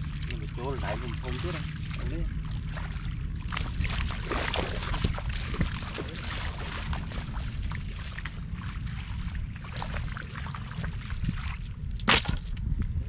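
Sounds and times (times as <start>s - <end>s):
splashing steps in puddle: 0.0s - 12.5s
wind rumbling on microphone: 0.0s - 13.0s.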